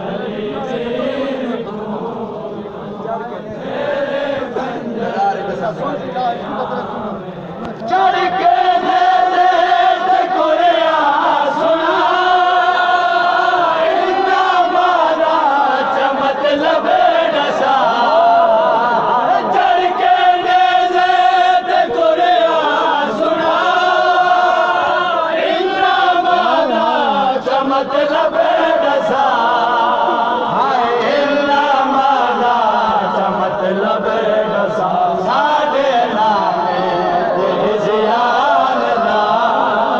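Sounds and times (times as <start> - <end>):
man chanting a lament: 0.0 - 39.9.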